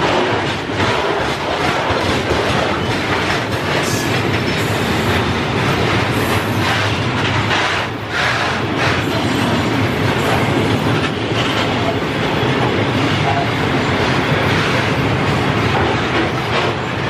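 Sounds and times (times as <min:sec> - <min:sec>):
freight train rumbling past: 0:00.0 - 0:17.0
wheels clacking over track: 0:00.0 - 0:17.0.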